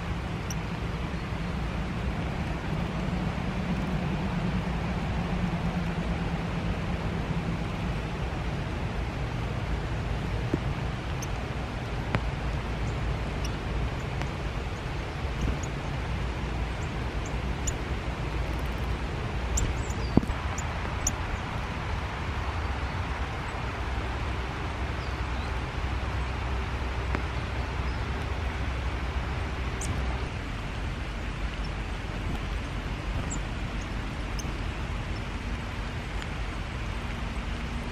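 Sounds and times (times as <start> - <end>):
small birds chirping: 0.0 - 4.0, 7.6 - 21.8, 24.4 - 37.9
rain falling on leaves: 0.0 - 37.9.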